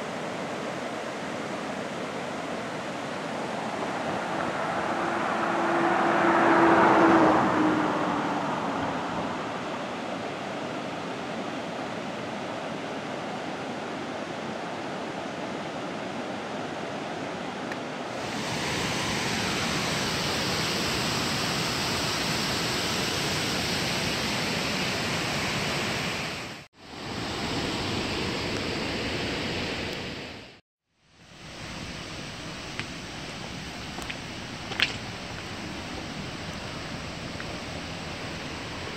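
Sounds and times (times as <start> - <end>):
waterfall rushing over rocks: 0.0 - 6.2, 8.2 - 30.6, 31.3 - 38.9.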